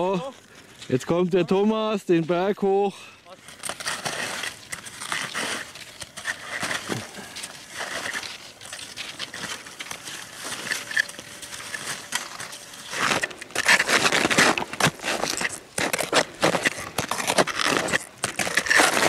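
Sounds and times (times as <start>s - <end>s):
snowshoe steps crunching in snow: 3.3s - 19.0s.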